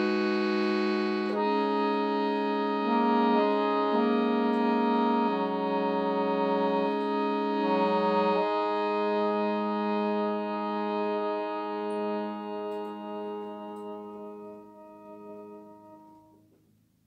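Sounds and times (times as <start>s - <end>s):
accordion playing chords: 0.0s - 16.4s.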